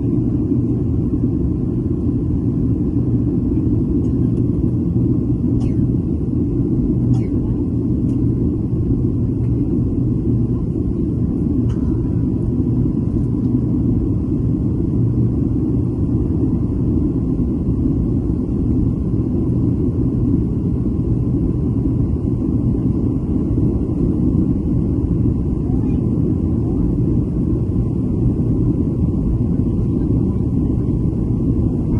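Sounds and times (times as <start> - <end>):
airliner engine and airflow rumble: 0.0 - 31.9
faint steady whine: 0.0 - 31.9.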